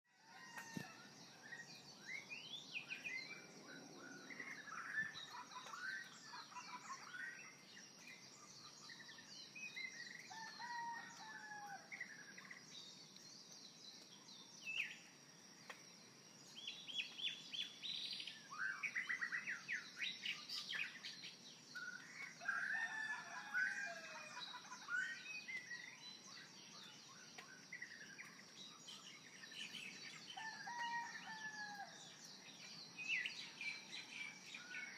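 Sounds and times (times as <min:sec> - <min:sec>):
birds chirping and singing: 0:00.2 - 0:15.8, 0:16.4 - 0:34.9.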